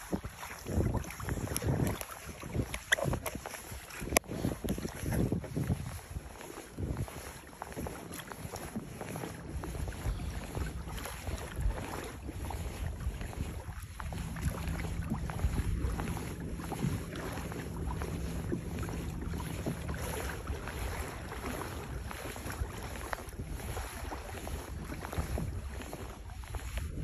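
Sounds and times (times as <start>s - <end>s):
water swishing along a hull: 0.0s - 27.0s
wind buffeting microphone: 0.0s - 27.0s.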